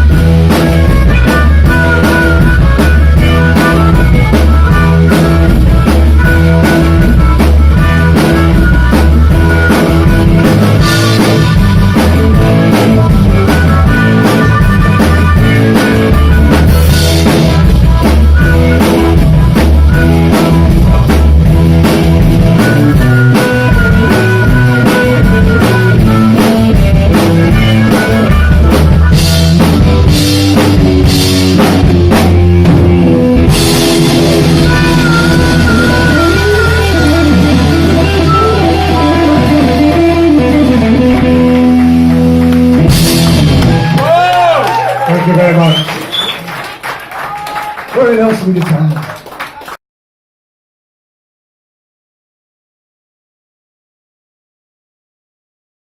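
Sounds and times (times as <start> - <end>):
electric guitar: 0.0 - 46.3
bass guitar: 0.0 - 46.9
drum kit beat: 0.0 - 47.4.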